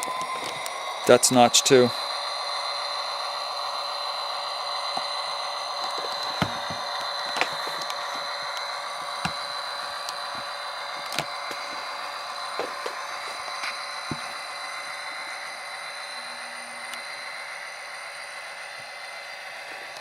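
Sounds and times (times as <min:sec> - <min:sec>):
thin diesel engine drone from speaker: 0:00.0 - 0:20.0.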